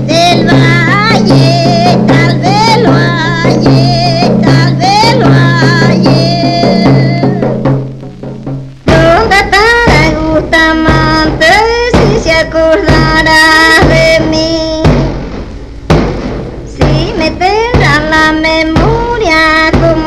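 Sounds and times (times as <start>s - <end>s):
high voice singing folk song: 0.0s - 7.8s, 8.8s - 15.4s, 16.6s - 20.0s
steady drum beat: 0.0s - 20.0s.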